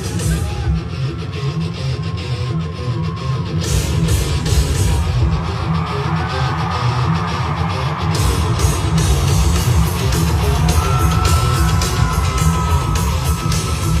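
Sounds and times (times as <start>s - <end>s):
live heavy metal music: 0.0s - 14.0s.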